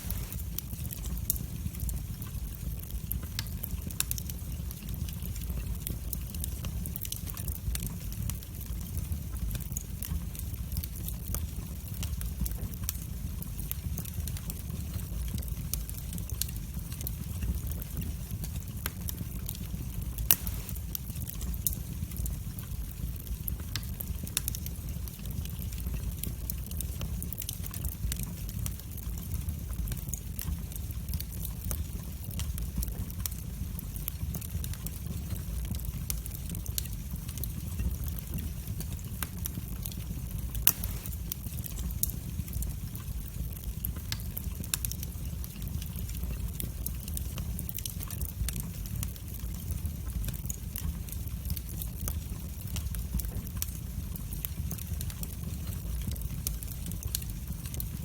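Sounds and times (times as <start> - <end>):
fire crackling and popping: 0.0 - 58.0
flames rumbling: 0.0 - 58.0.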